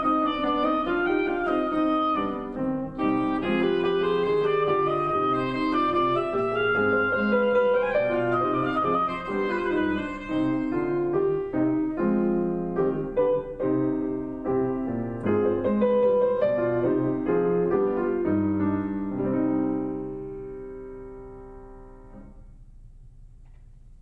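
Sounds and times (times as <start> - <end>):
grand piano playing classical solo: 0.0 - 22.6.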